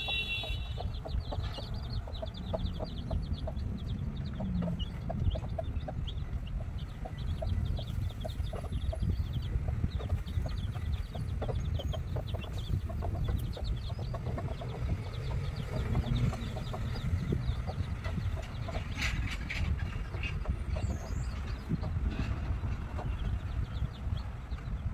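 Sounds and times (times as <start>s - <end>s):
hen clucking: 0.0s - 24.2s
chicks peeping: 0.0s - 24.9s
low rumble: 0.8s - 24.9s.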